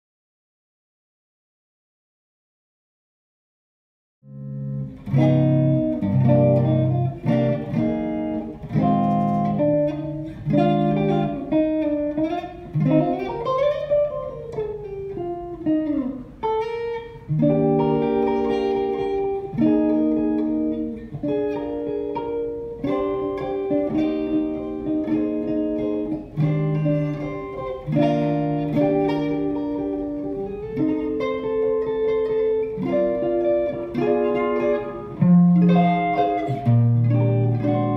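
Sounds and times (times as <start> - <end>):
electric guitar chords and notes: 4.2 - 37.9.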